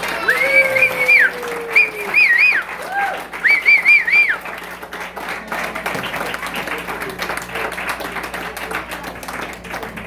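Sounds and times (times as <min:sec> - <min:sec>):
children clapping: 0:00.0 - 0:10.0.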